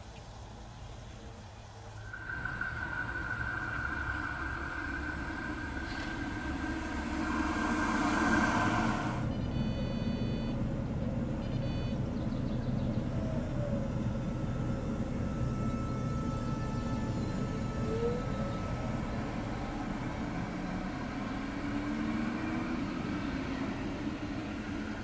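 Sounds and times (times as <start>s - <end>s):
low steady hum: 0.0s - 25.0s
tram running with high whine: 0.0s - 25.0s.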